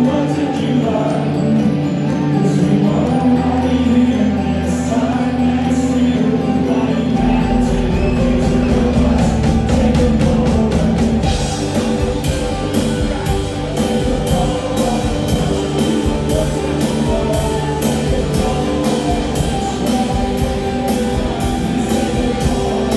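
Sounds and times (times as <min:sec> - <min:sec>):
live rock band: 0:00.0 - 0:22.9.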